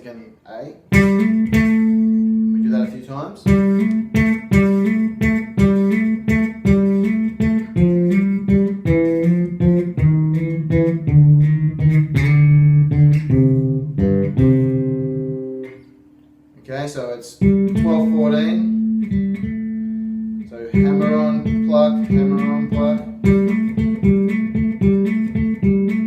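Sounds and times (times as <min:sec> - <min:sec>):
electric bass plucked notes: 0:00.9 - 0:16.0, 0:17.4 - 0:26.0.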